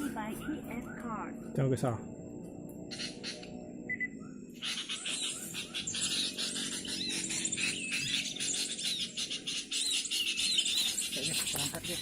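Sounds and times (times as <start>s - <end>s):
insect hiss: 0.0s - 12.0s.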